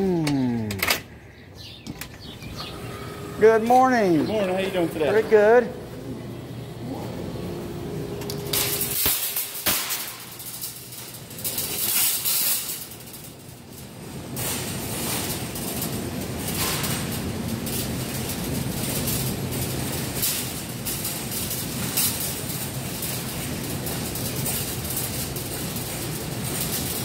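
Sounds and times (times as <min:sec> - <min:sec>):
supermarket low hum: 0:00.0 - 0:27.0.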